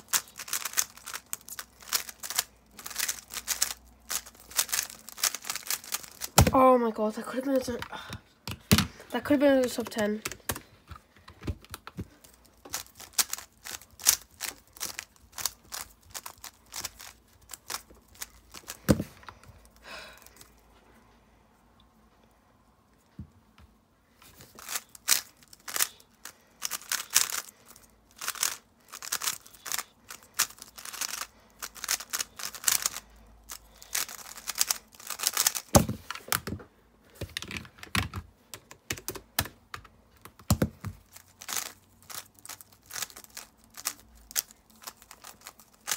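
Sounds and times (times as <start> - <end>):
puzzle cube clicking turns: 0.0 - 6.6, 9.6 - 19.4, 24.5 - 36.5, 37.2 - 45.9.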